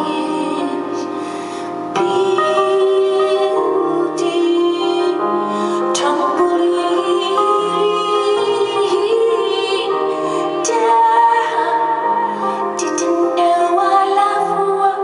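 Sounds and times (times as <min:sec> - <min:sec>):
woman singing: 0:00.0 - 0:01.2, 0:02.0 - 0:15.0
piano and keyboard: 0:00.0 - 0:15.0.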